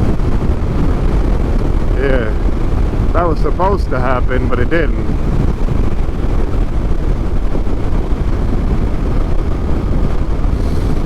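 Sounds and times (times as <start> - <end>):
motorcycle engine running: 0.0 - 11.0
wind rushing on microphone: 0.0 - 11.0.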